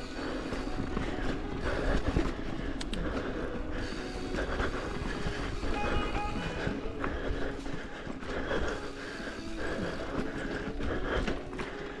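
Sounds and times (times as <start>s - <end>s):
background music: 0.0s - 12.0s
bike rattling: 0.0s - 12.0s.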